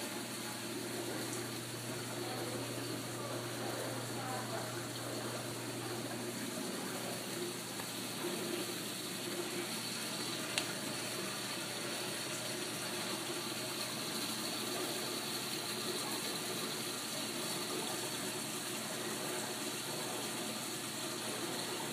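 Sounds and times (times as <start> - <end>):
water pouring from drain pipe: 0.0 - 21.9.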